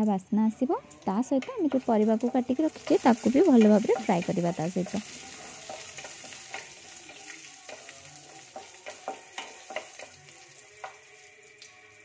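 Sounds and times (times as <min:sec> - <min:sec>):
spices sizzling in oil: 0:00.1 - 0:12.0.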